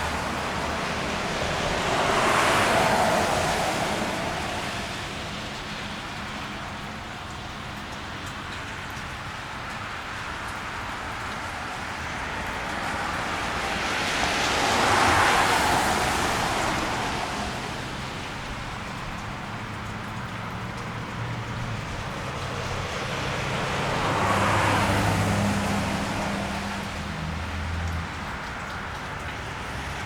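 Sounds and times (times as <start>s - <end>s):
car tyres hissing on wet road: 0.0s - 8.5s, 9.6s - 30.0s
rain and road noise: 0.0s - 30.0s.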